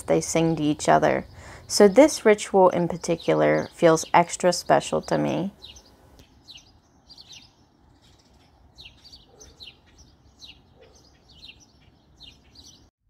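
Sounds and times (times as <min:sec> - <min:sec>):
small bird chirping: 0:00.0 - 0:12.9.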